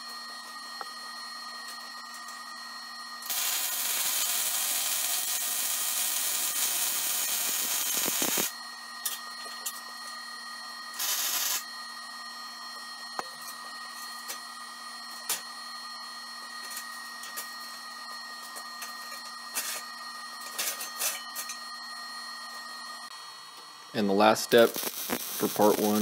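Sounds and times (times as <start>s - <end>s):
electrical hum with high whine: 0.0s - 26.0s.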